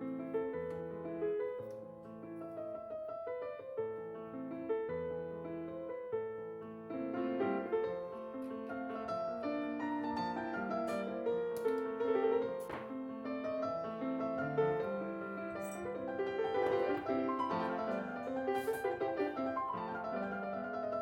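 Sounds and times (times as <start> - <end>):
background piano music: 0.0 - 21.0.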